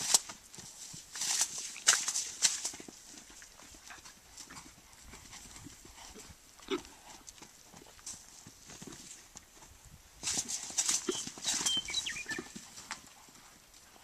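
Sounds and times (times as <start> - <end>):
horse hoofbeats on dirt: 0.0 - 14.0.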